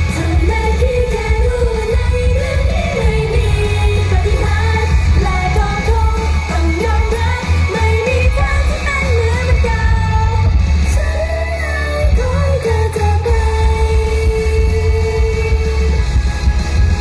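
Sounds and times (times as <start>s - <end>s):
female voices singing: 0.0s - 16.0s
pop music with heavy bass: 0.0s - 17.0s.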